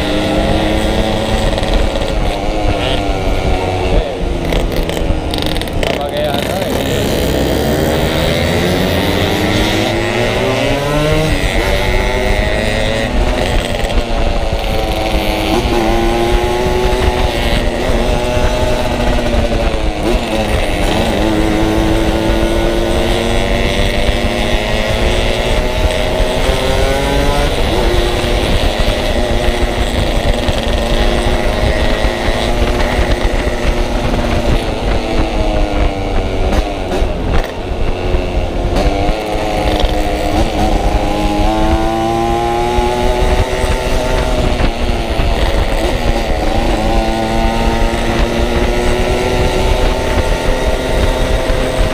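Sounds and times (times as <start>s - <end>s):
motorcycle engine revving: 0.0s - 51.9s
wind rumbling on microphone: 0.0s - 51.9s.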